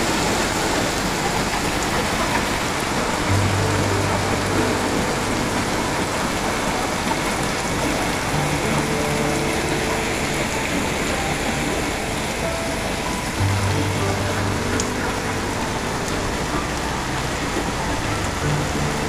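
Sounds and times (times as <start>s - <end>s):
heavy rain on wet pavement: 0.0s - 19.0s
low hum: 1.2s - 19.0s.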